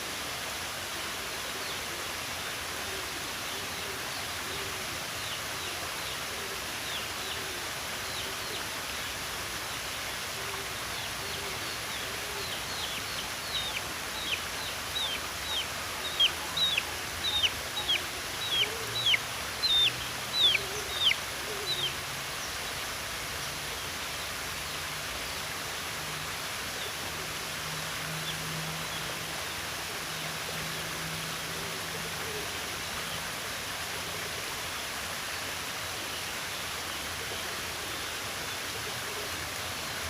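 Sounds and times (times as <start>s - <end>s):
running water rushing: 0.0s - 40.0s.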